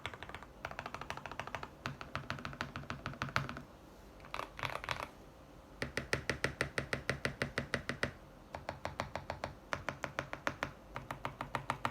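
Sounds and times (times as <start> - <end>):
mechanical keyboard typing: 0.0 - 3.6, 4.2 - 5.1, 5.8 - 11.9.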